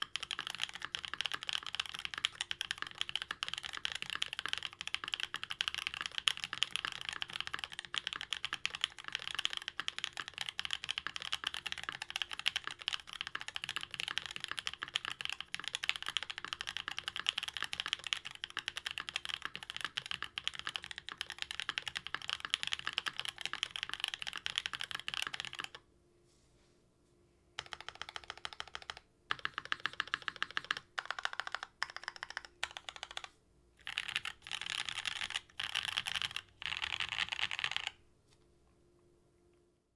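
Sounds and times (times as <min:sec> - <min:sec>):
fast mechanical keyboard typing: 0:00.0 - 0:25.8, 0:27.6 - 0:38.0.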